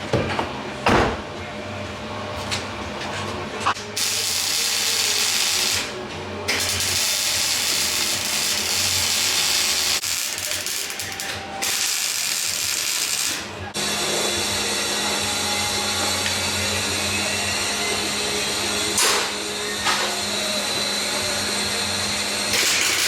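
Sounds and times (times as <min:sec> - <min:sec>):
hissing buzzing power tool: 0:03.7 - 0:23.0.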